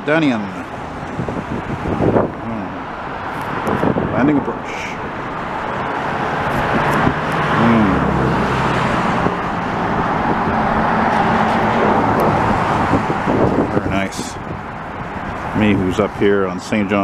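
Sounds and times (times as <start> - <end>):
road traffic roar: 0.0 - 17.0
low engine hum: 0.5 - 16.3.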